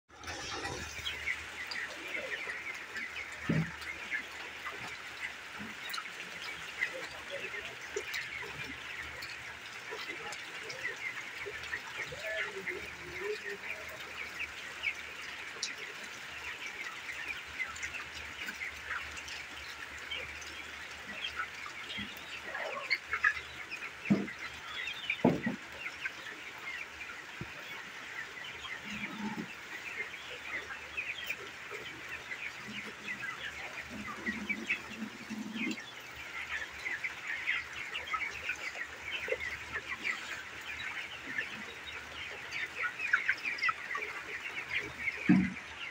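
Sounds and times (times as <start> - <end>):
chickens chirping and peeping: 0.1 - 45.9.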